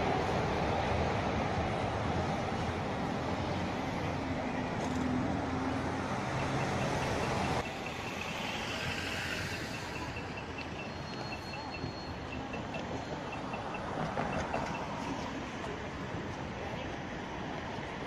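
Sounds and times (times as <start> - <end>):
cars driving past: 0.0 - 15.8.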